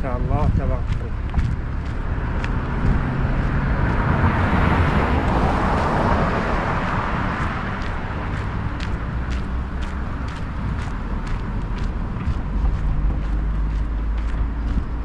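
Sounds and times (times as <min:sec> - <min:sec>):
broad rushing noise: 0:00.0 - 0:15.0
car engine and tyres rumbling: 0:00.0 - 0:15.0.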